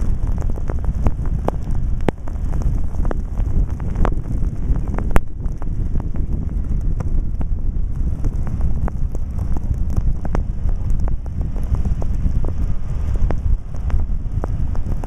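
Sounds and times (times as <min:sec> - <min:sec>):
clicks and crackles of snow: 0:00.0 - 0:15.0
vehicle rumbling on snowy road: 0:00.0 - 0:15.0.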